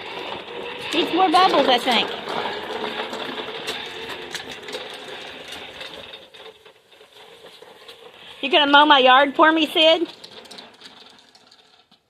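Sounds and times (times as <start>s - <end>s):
toy motor whirring with clatter: 0.0s - 12.0s.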